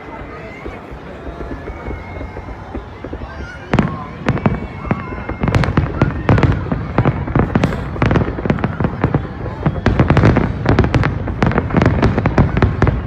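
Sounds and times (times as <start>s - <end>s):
fireworks bursts and crackling bangs: 0.0s - 13.0s.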